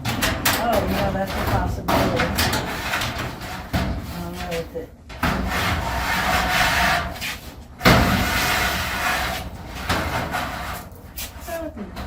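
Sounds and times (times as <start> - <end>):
aluminium angle scraping on metal: 0.0 - 11.6.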